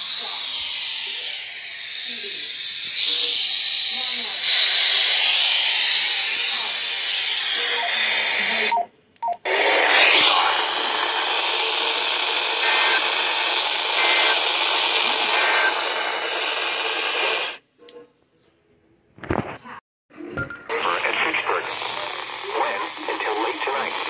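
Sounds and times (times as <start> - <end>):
radio static hiss: 0.0 - 8.8, 9.4 - 17.6, 20.7 - 24.0.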